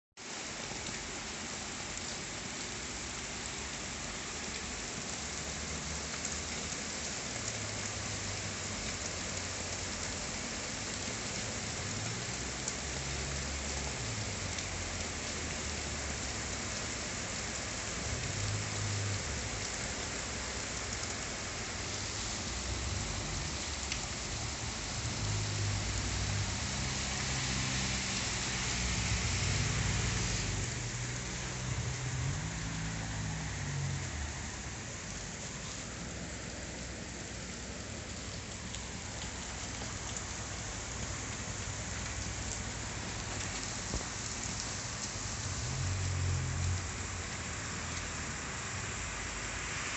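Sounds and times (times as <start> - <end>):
rain falling: 0.2 - 49.9.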